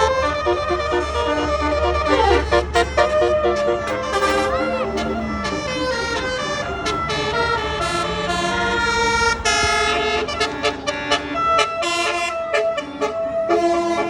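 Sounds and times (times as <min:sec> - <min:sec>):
faint low engine drone: 0:00.0 - 0:14.0
multi-tone air horn playing tune: 0:00.0 - 0:14.0.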